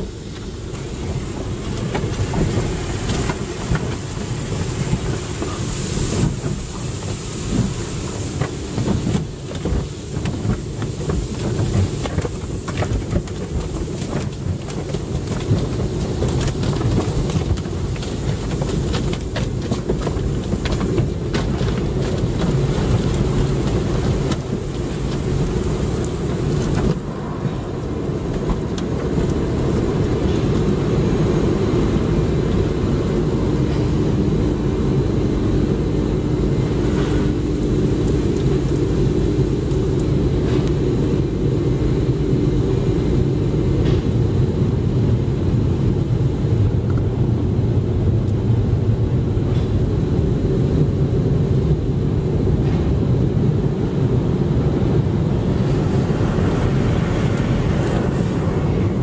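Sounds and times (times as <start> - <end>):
car wash water spray and machinery: 0.0 - 59.0.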